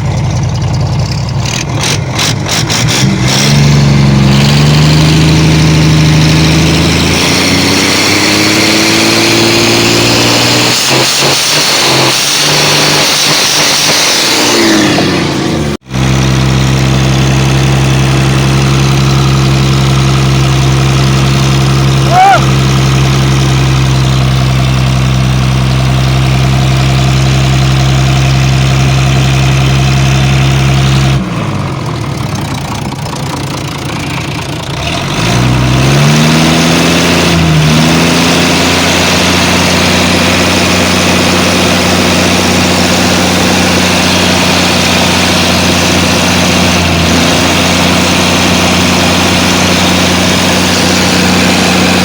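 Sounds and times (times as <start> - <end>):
boat engine running: 0.0 - 10.9, 14.9 - 52.0.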